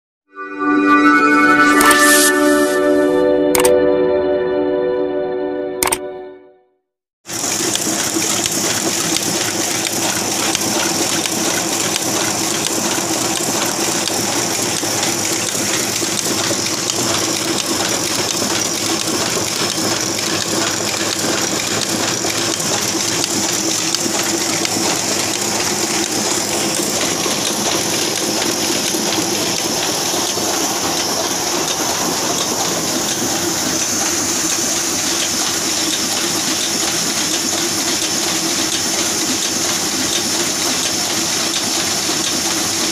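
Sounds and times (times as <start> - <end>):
printing press whirring: 7.3 - 42.9.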